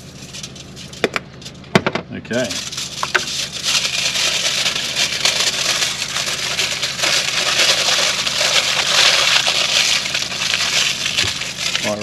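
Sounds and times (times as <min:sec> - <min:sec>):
aluminium foil crinkling: 0:00.0 - 0:01.6, 0:02.4 - 0:12.0.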